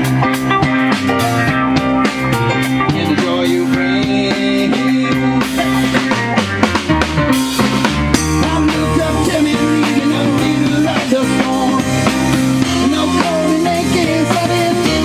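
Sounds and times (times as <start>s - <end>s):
drum kit: 0.0s - 15.0s
electric guitar: 0.0s - 15.0s
keyboards: 0.0s - 15.0s.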